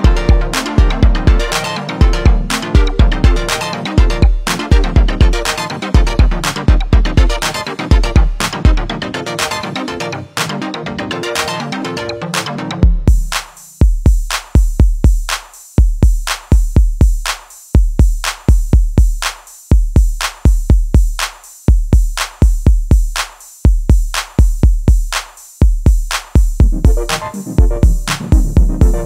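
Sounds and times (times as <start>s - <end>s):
drum machine kick beat: 0.0s - 11.8s, 12.4s - 29.0s.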